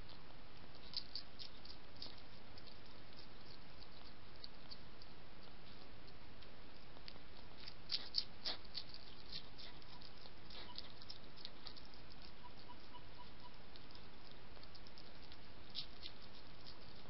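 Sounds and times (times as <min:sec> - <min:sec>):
hedgehogs crunching biscuits: 0:00.0 - 0:17.0.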